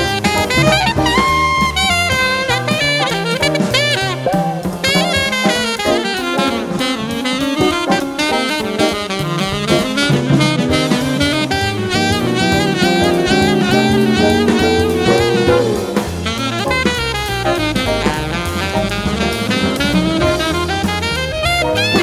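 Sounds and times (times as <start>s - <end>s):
alto saxophone playing jazz: 0.0s - 22.0s
bass line: 0.0s - 22.0s
drum kit: 0.0s - 22.0s.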